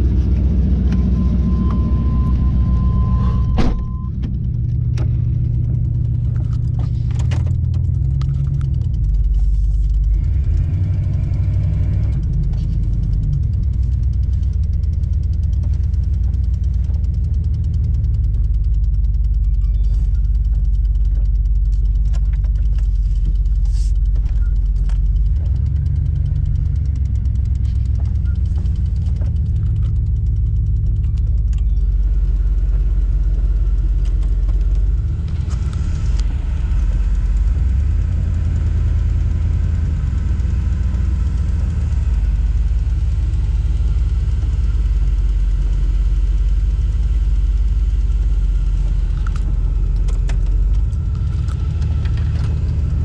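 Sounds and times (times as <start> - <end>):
vehicle engine running loudly: 0.0 - 53.0.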